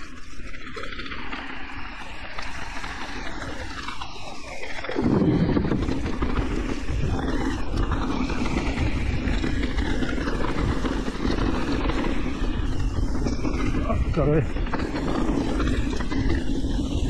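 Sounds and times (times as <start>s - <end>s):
bike rattling: 0.0s - 17.0s
bike tyres rolling on dirt: 0.0s - 17.0s
wind buffeting microphone: 0.0s - 17.0s.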